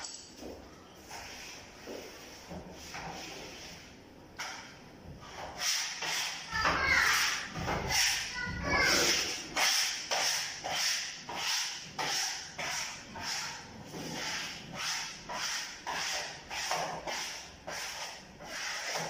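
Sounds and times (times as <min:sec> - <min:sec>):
hand rubbing wallpaper: 0:00.9 - 0:04.3, 0:05.1 - 0:19.0.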